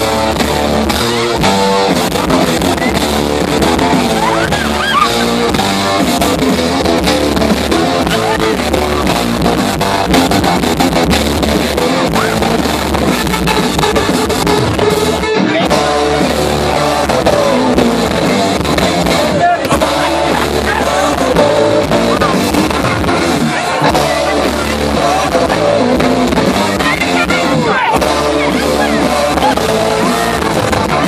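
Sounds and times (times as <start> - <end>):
drum kit: 0.0 - 31.0
electric guitar: 0.0 - 31.0.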